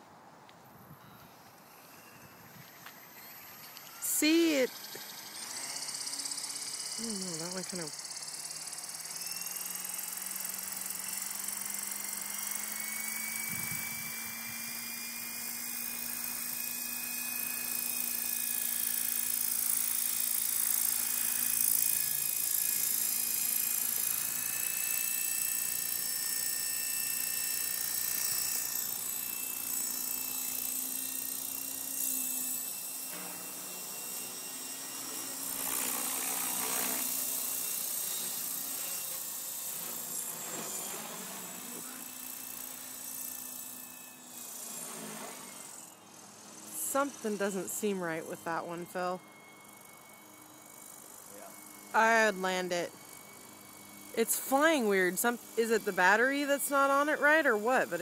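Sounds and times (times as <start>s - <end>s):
high motor and gear whine: 0.8s - 58.0s
helicopter rotor hum: 1.3s - 58.0s.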